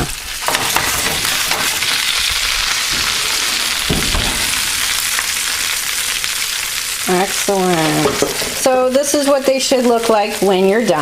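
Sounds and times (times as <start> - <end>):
chicken sizzling on baking pan: 0.0 - 11.0.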